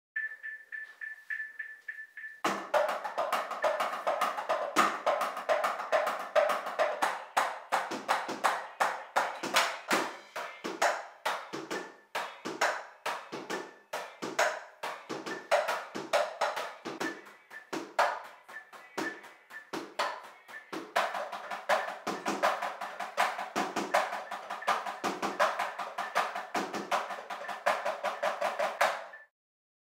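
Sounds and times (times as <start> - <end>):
electronic drum kit playing: 0.3 - 29.3.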